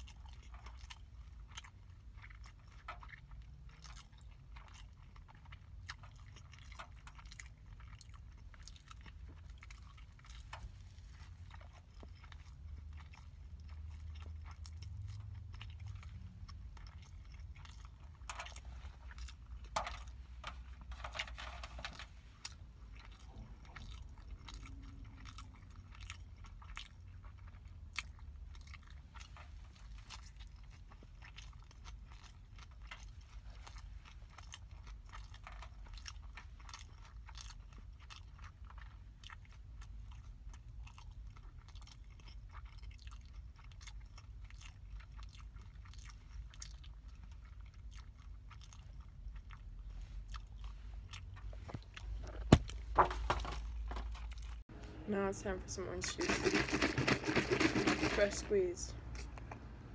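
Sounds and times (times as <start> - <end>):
biting and chewing burger: 0.0 - 54.8, 59.0 - 59.9
low steady hum: 0.0 - 59.9.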